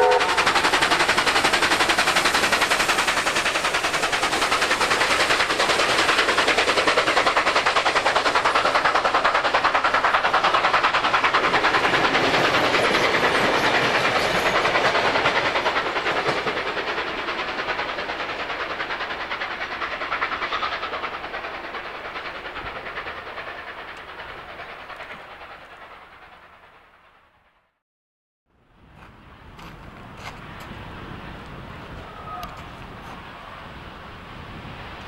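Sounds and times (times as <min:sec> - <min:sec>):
train wheels clattering on rails: 0:00.0 - 0:27.0, 0:28.9 - 0:33.6.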